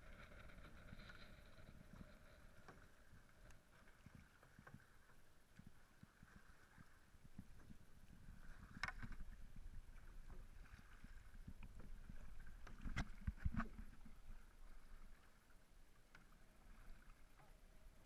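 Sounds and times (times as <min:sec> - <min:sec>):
water washing along hull: 0:00.0 - 0:18.0
paddles dipping in water: 0:02.4 - 0:18.0.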